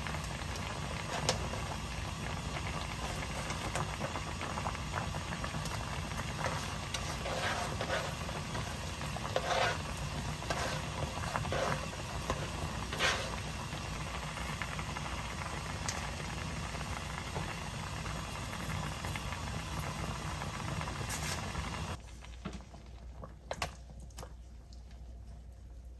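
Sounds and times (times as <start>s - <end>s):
stew boiling and bubbling: 0.0s - 25.9s.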